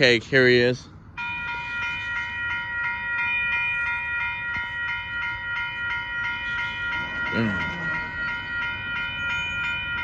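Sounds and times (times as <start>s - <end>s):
crossing warning bell ringing: 0.0s - 10.0s.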